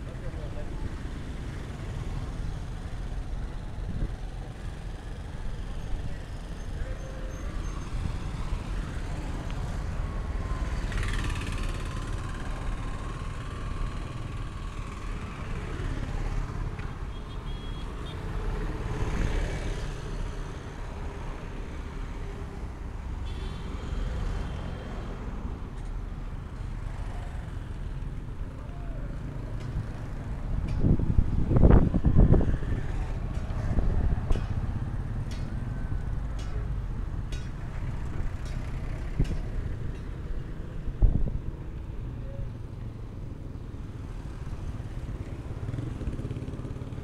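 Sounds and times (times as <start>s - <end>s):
street traffic rumble: 0.0s - 47.0s
vehicles passing: 0.0s - 47.0s.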